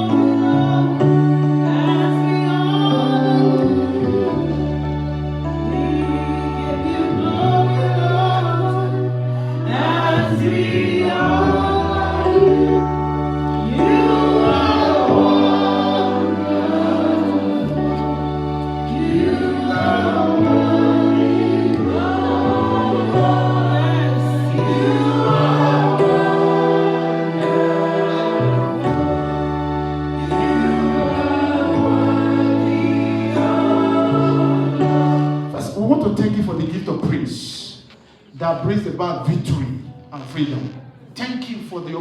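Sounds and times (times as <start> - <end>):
congregation and choir singing: 0.0 - 35.7
keyboard accompaniment: 0.0 - 42.0.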